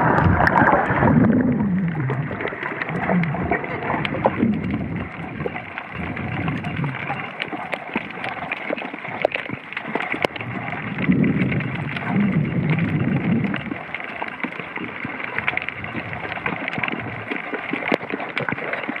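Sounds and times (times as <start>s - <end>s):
low rumble of moving water: 0.0s - 19.0s
sharp underwater clicks: 0.0s - 19.0s
underwater rush of water: 0.0s - 19.0s.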